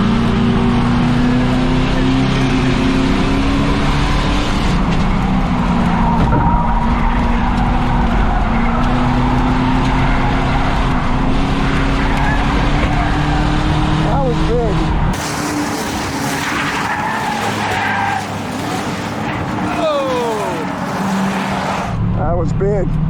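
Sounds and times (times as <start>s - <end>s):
race car engine running hard: 0.0s - 22.5s
tyre and road noise: 0.0s - 23.0s.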